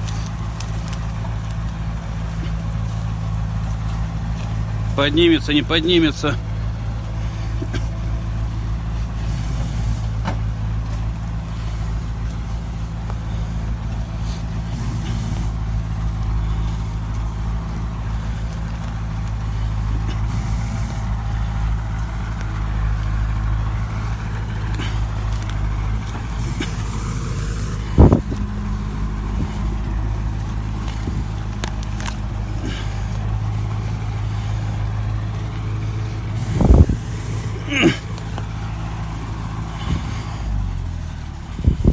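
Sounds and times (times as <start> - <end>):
diesel truck engine under load: 0.0 - 41.9.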